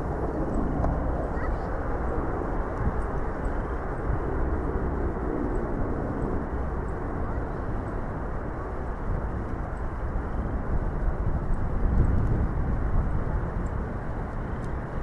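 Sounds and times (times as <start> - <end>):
distant turboprop engines rumbling: 0.0 - 15.0.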